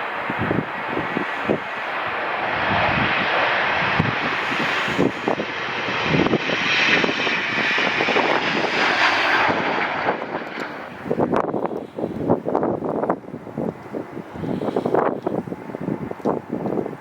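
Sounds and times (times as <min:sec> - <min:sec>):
airliner engines rushing: 0:00.0 - 0:17.0
wind buffeting microphone: 0:00.0 - 0:17.0.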